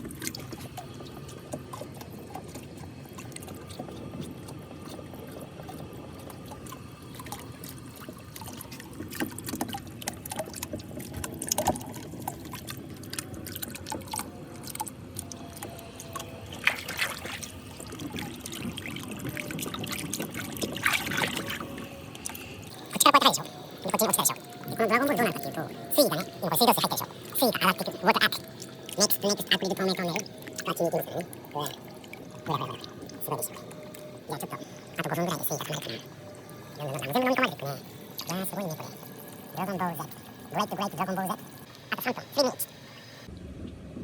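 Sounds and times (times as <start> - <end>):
tap water pouring: 0.0 - 41.9
small clicks and splashes: 0.0 - 42.6.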